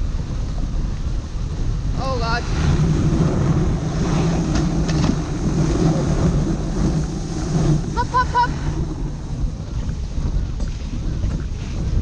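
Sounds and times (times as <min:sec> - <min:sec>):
wind on microphone: 0:00.0 - 0:12.0
sled runners sliding over snow: 0:01.5 - 0:12.0.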